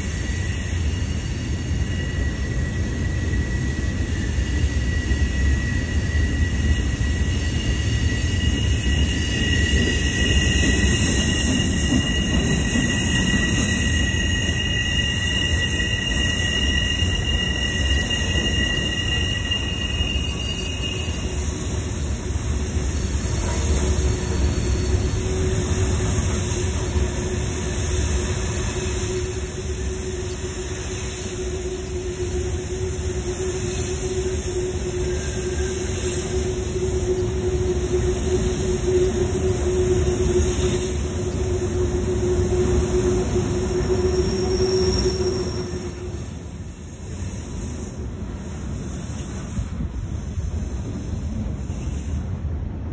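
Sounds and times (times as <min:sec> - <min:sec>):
low squealing tone: 0:00.0 - 0:21.8, 0:23.2 - 0:46.8
high wheel squeal: 0:00.0 - 0:52.3
train wheels rumbling on rail: 0:00.0 - 0:52.9.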